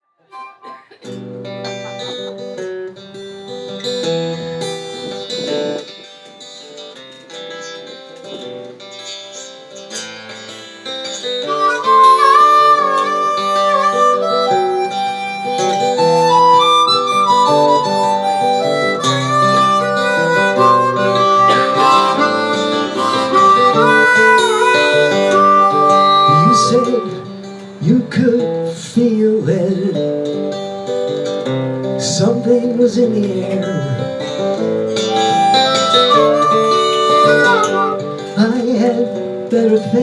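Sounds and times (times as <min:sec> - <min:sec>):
harmonica melody: 0:00.2 - 0:28.8, 0:29.7 - 0:39.5
acoustic guitar chords: 0:00.2 - 0:40.0.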